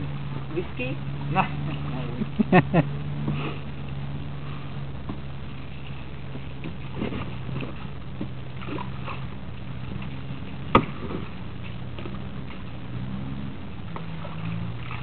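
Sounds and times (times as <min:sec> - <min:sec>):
low hum of boat: 0:00.0 - 0:15.0
water splashes: 0:00.0 - 0:15.0.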